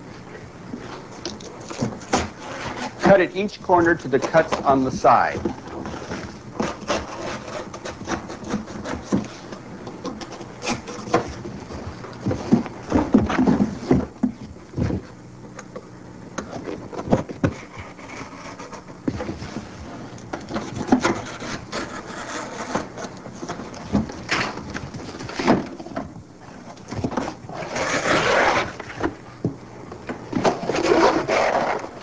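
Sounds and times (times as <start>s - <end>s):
cardboard being cut: 1.4s - 14.2s, 16.5s - 25.8s, 27.0s - 29.1s, 30.4s - 32.0s.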